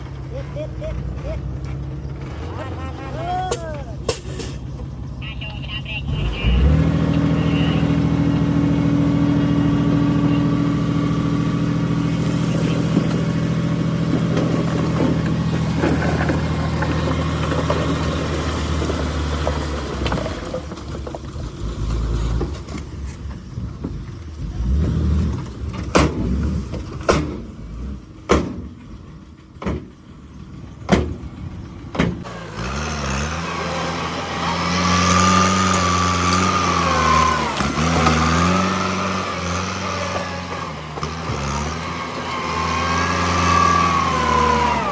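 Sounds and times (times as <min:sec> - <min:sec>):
bulldozer diesel engine: 0:00.0 - 0:44.9.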